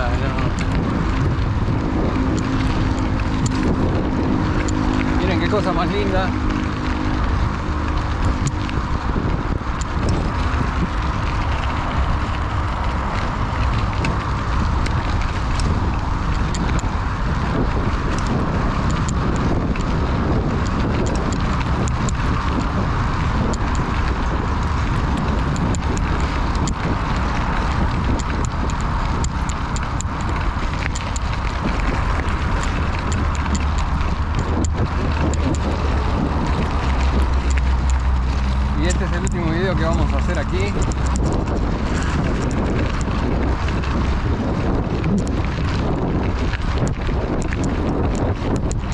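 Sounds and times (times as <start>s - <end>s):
bike tyres rolling on gravel: 0.0s - 48.9s
gravel crackles: 0.0s - 48.9s.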